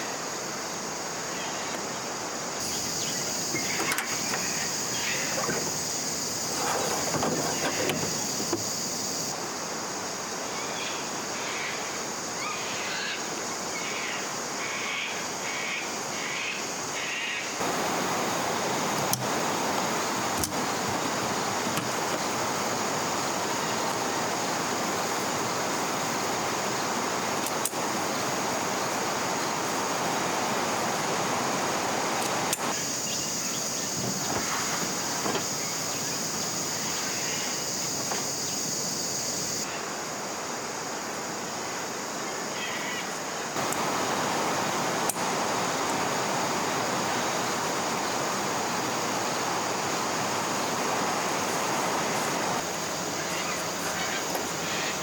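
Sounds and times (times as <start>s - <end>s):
flowing river water: 0.0s - 10.5s, 17.6s - 55.0s
high-pitched hiss: 0.0s - 55.0s.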